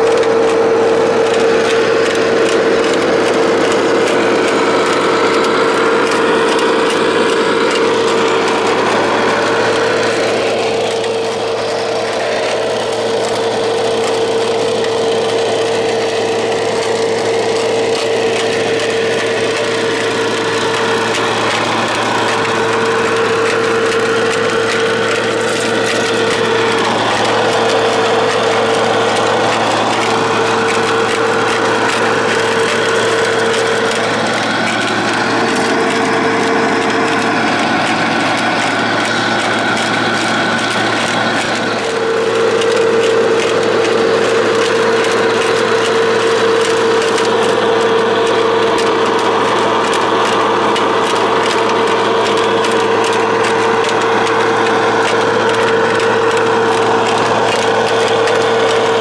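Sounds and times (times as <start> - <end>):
electric motor whine: 0.0 - 59.0
rough grinding noise: 0.0 - 59.0.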